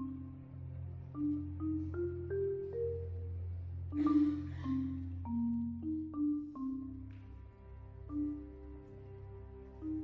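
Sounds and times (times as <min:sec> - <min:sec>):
marimba notes: 0:00.0 - 0:10.0.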